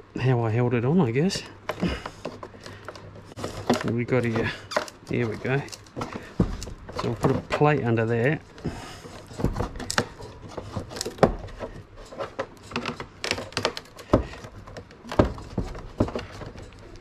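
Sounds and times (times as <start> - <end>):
knocks and rattles inside boat hull: 1.6 - 17.0.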